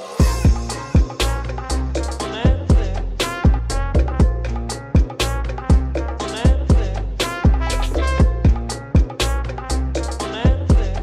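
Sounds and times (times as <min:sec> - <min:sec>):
afrobeat groove with drums: 0:00.0 - 0:11.0.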